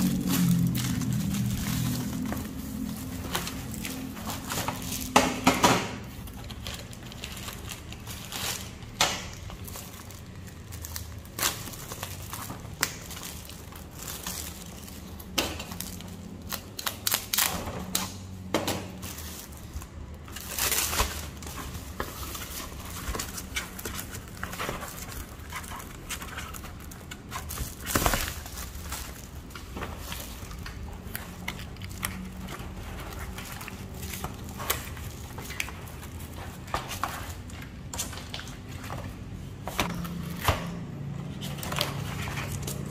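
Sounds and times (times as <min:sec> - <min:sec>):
plastic film crinkling: 0:00.0 - 0:42.9.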